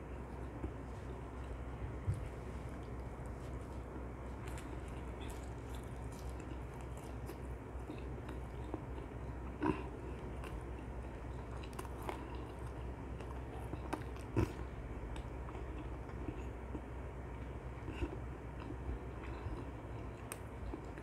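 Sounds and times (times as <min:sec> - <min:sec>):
steady low hum: 0:00.0 - 0:21.0
chewing crispy chicken: 0:00.1 - 0:21.0.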